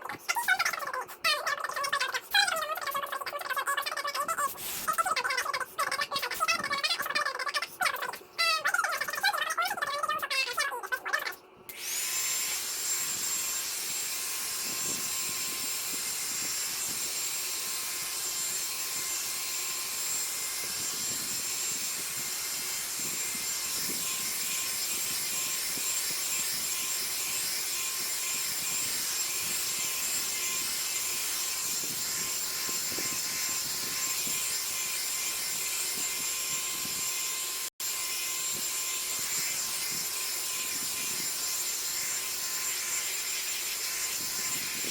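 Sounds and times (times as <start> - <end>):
hot air brush blowing: 1.7 - 7.2, 11.7 - 44.9.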